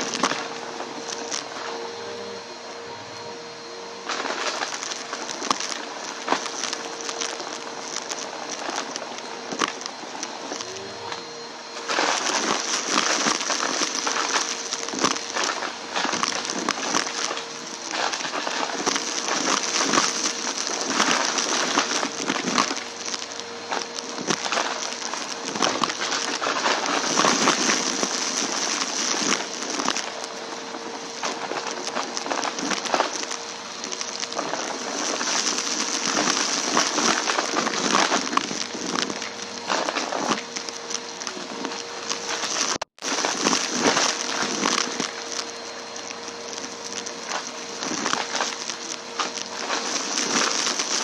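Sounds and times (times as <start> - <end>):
debris crackling in vacuum: 0.0 - 51.0
vacuum cleaner motor hum: 0.0 - 51.0.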